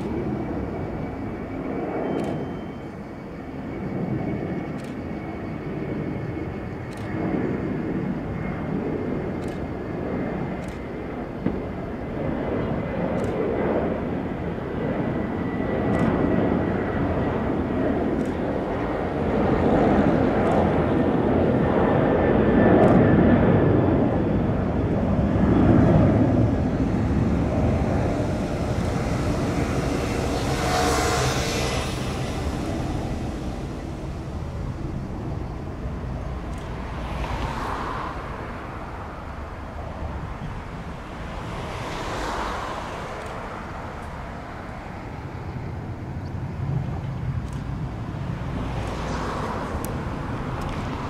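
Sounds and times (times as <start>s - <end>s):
jet airliner engines rumbling: 0.0s - 51.0s.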